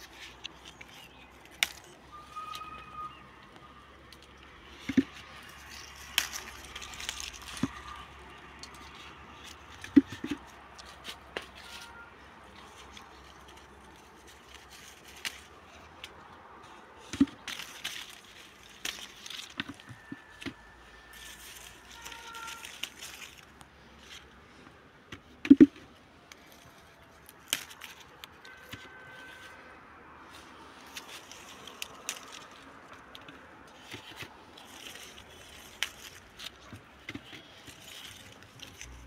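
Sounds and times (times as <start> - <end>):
leaves and twigs rustling: 0.0 - 39.0.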